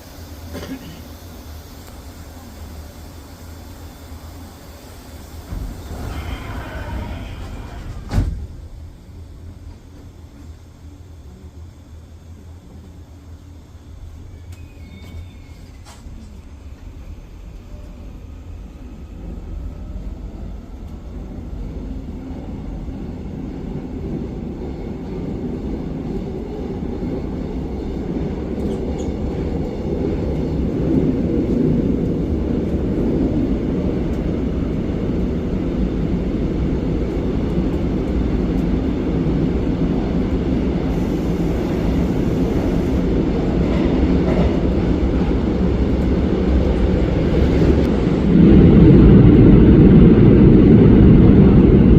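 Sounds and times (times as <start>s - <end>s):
train rumble inside carriage: 0.0s - 51.9s.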